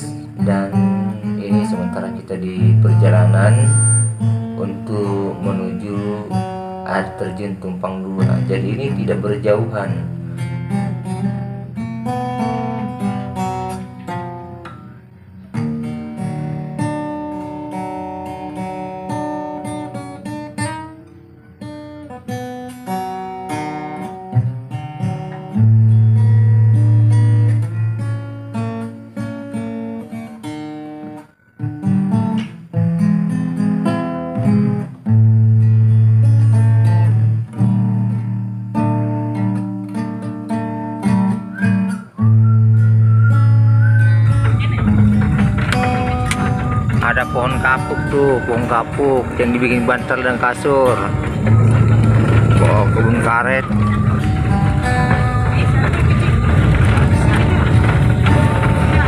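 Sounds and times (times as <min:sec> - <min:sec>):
instrumental music with picked melody: 0:00.0 - 0:59.0.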